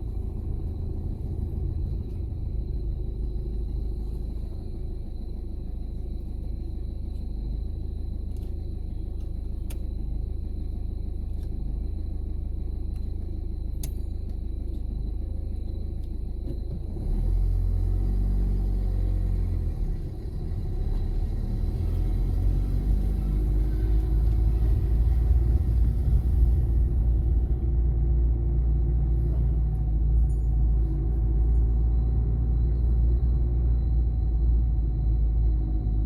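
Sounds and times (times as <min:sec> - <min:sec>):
car engine rumble: 0:00.0 - 0:36.0
road noise: 0:00.0 - 0:36.0.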